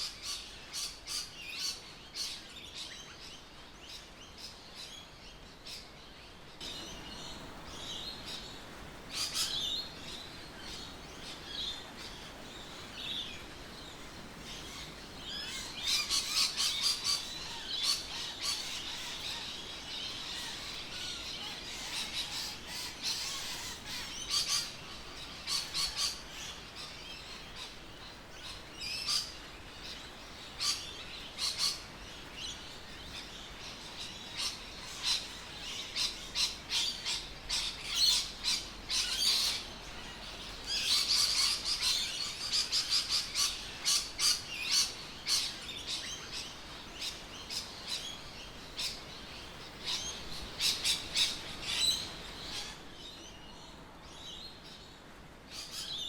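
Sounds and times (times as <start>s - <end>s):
birds chirping and calling: 0.0s - 53.4s.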